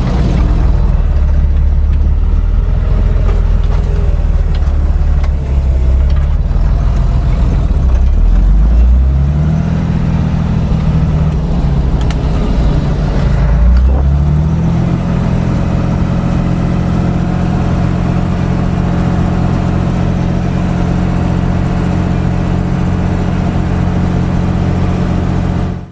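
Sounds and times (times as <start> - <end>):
tractor diesel engine running hard: 0.0 - 25.9.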